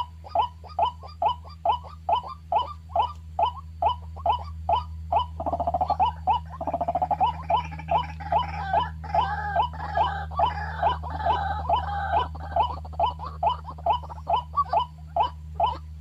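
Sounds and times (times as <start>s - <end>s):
waterhen calls: 0.0s - 16.0s.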